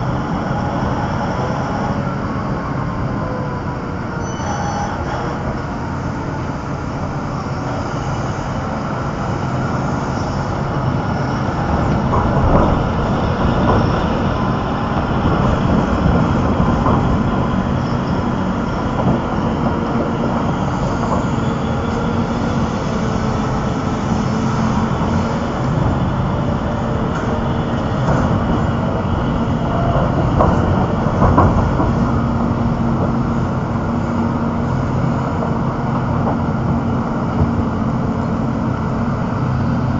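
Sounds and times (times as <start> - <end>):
excavator engine drone: 0.0 - 39.9.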